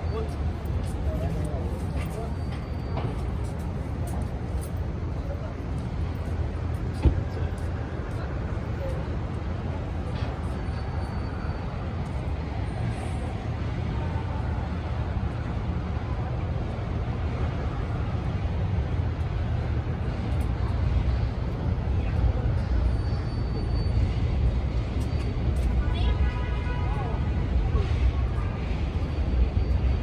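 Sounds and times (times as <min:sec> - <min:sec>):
rumble of passing vehicles: 0:00.0 - 0:30.0.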